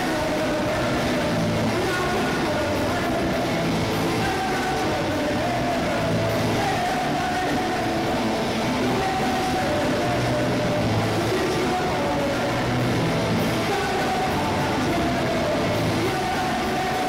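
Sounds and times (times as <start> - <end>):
bass guitar: 0.0 - 17.0
distorted electric guitars: 0.0 - 17.0
drums: 0.0 - 17.0.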